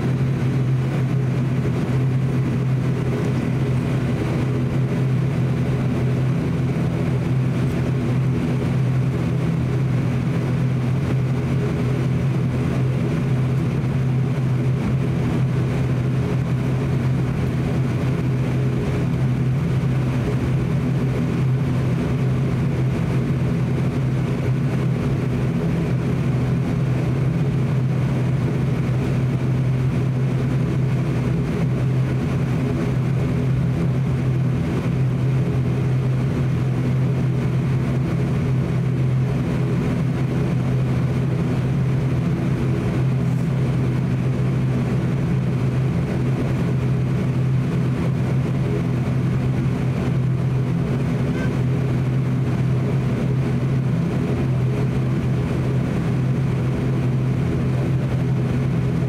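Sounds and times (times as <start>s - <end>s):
turboprop engine drone: 0.0s - 59.0s.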